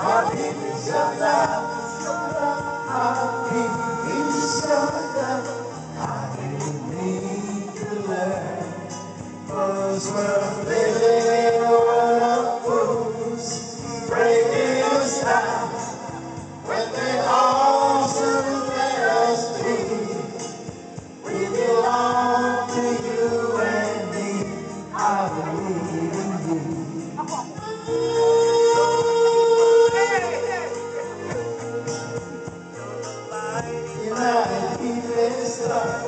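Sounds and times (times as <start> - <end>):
group of people singing: 0.0 - 36.0.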